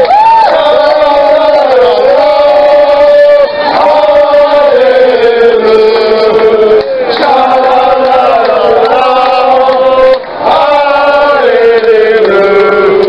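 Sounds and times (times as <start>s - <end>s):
men chanting loudly: 0.4s - 13.0s.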